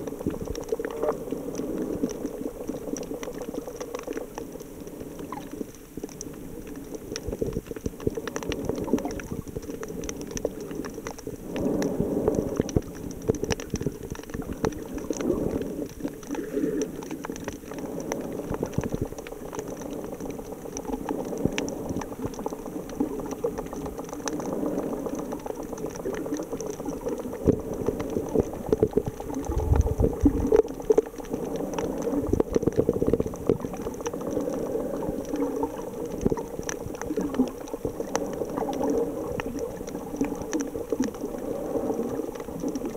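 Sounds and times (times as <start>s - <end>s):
crackle of fine clicks: 0.0s - 42.9s
muffled underwater bubbling: 0.0s - 42.9s.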